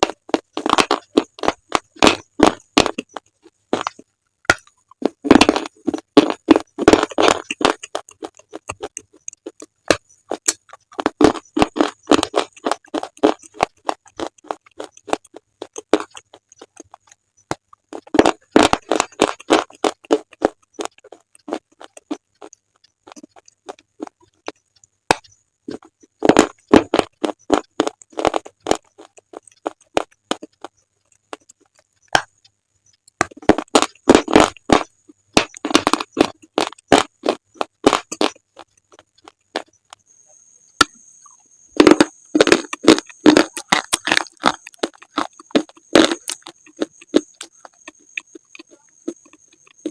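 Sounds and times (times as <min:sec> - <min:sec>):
slate being bitten and chewed: 0:00.0 - 0:32.3, 0:33.1 - 0:40.0, 0:40.8 - 0:49.9.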